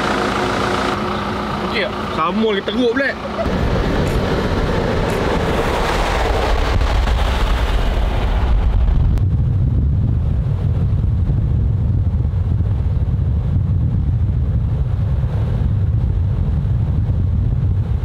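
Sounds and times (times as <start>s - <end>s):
road and wind noise: 0.0s - 18.0s
vehicle interior rumble: 0.0s - 18.0s.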